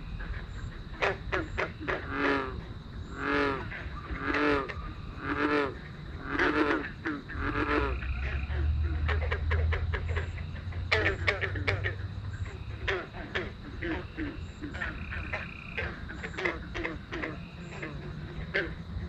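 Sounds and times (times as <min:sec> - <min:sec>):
frog drawn-out croaks: 0:00.0 - 0:19.0
frogs clicking calls: 0:00.0 - 0:19.0.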